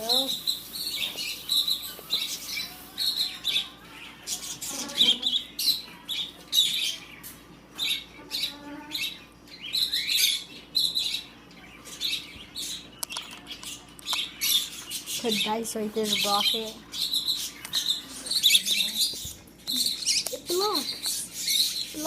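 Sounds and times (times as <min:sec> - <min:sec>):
baby birds chirping and squawking: 0:00.0 - 0:22.0.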